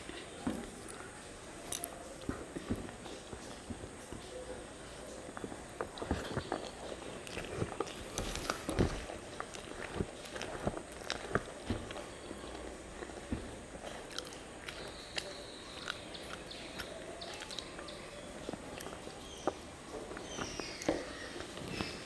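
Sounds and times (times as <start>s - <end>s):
chewing and wet mouth sounds: 0.0s - 22.0s
fingers mixing rice: 0.0s - 22.0s.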